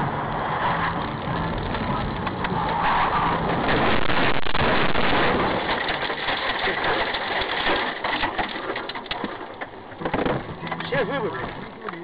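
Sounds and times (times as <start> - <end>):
vehicle and road noise: 0.0 - 12.0
small clicks and crackles: 0.8 - 2.9, 3.7 - 12.0.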